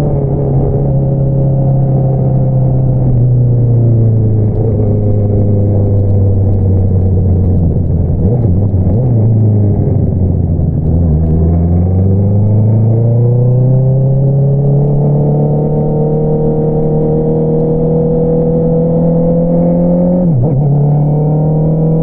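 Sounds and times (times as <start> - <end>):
motorcycle engine while riding: 0.0 - 22.0.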